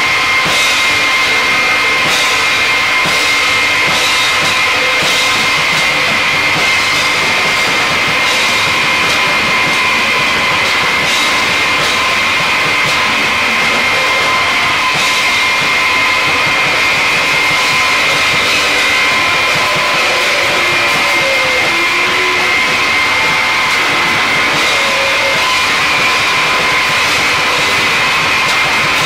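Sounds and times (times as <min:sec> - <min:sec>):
distorted noise music: 0:00.0 - 0:29.0
high whining tones: 0:00.0 - 0:29.0.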